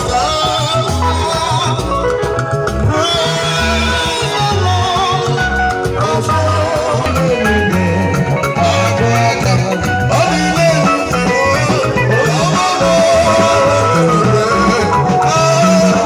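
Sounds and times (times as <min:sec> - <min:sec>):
bass line: 0:00.0 - 0:16.0
gospel band over loudspeakers: 0:00.0 - 0:16.0
guitar: 0:00.0 - 0:16.0
man singing into microphone: 0:00.0 - 0:16.0.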